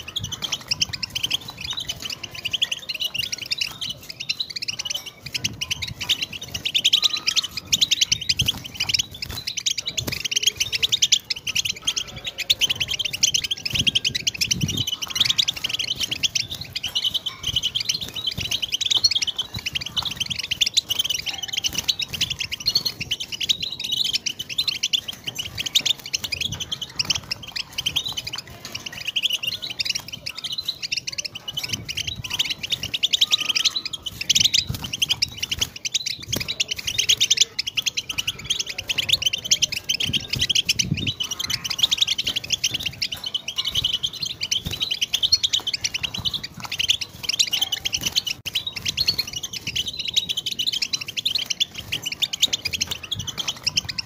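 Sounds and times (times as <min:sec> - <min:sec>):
goldfinch singing: 0:00.0 - 0:54.0.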